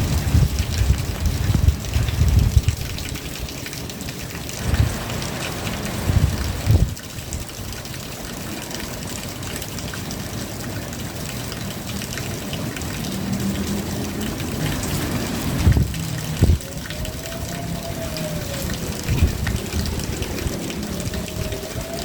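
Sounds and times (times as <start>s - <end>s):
steady rain: 0.0s - 22.0s
water trickling: 0.0s - 22.0s.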